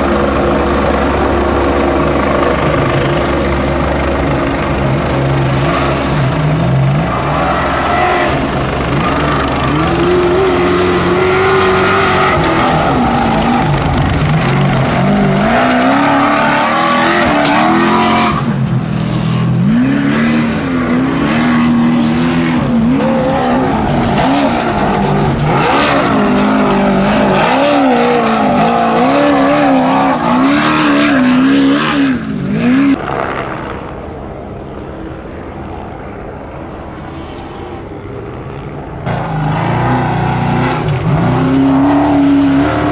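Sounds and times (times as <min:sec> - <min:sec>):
race truck engine revving: 0:00.0 - 0:33.3, 0:39.0 - 0:42.9.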